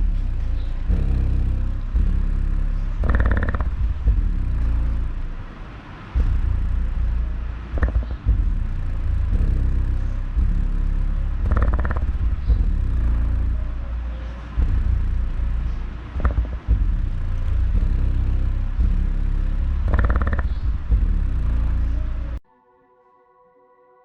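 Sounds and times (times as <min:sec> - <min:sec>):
bass-heavy music from subwoofer: 0:00.0 - 0:22.4.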